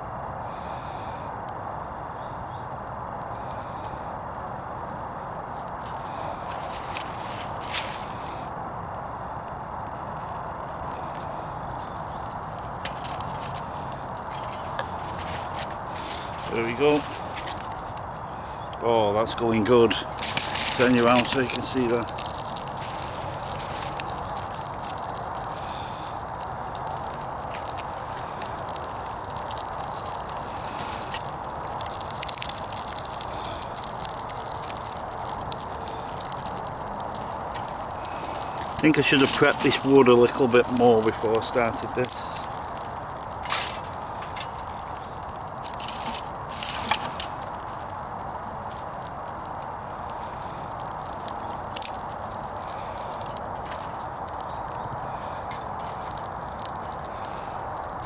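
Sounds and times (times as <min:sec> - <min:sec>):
fire crackling and popping: 0:00.0 - 0:58.0
wood fire rushing: 0:02.4 - 0:58.0.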